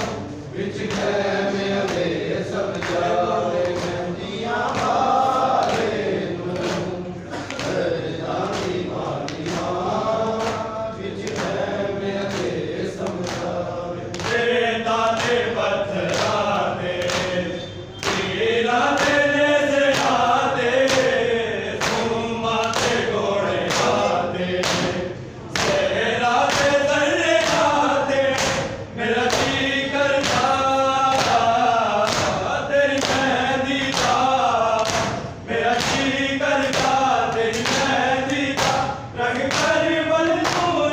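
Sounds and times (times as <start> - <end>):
men chanting together: 0.0 - 40.9.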